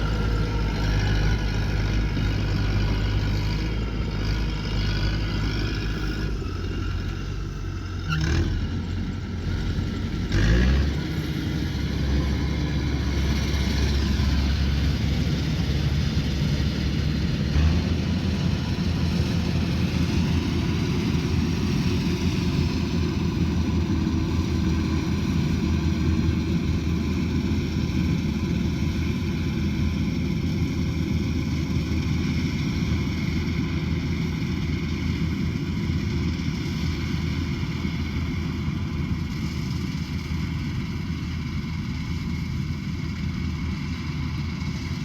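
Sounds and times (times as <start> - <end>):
combine harvester engine running: 0.0 - 45.0.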